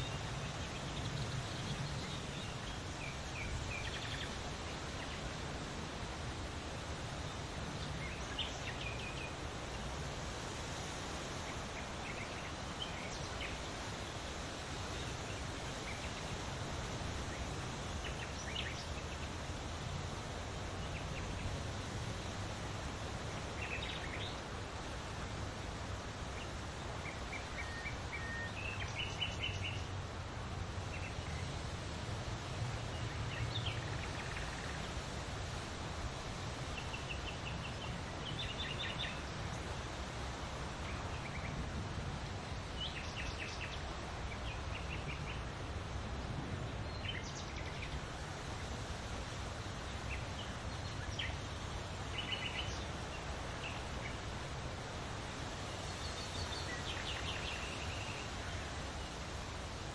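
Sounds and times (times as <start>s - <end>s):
leaves rustling in wind: 0.0s - 59.9s.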